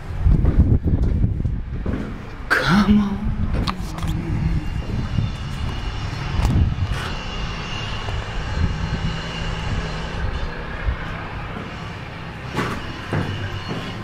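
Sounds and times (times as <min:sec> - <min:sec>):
wind buffeting microphone: 0:00.0 - 0:12.3.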